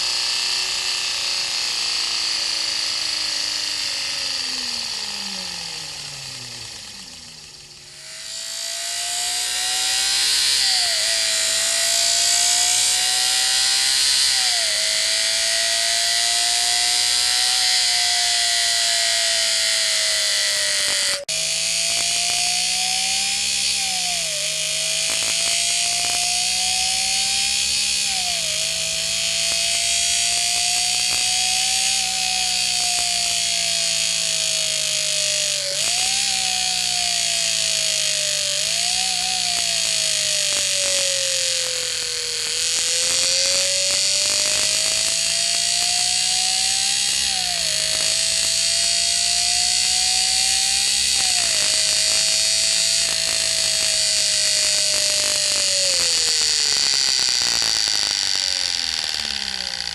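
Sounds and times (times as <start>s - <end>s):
hiss: 0.0s - 59.9s
paper strip slapping spinning disc: 8.9s - 59.9s.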